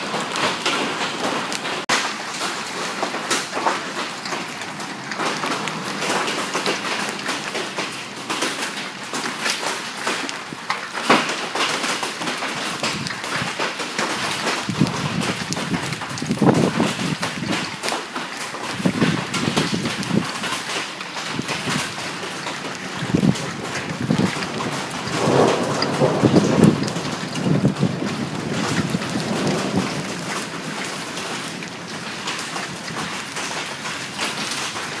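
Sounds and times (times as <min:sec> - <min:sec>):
hail and rain pattering: 0:00.0 - 0:35.0.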